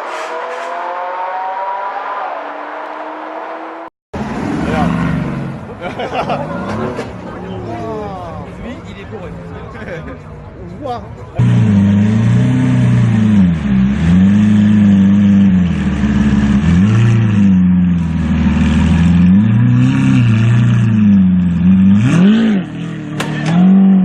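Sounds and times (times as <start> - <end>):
car engine revving: 0.0 - 7.6, 11.4 - 24.0.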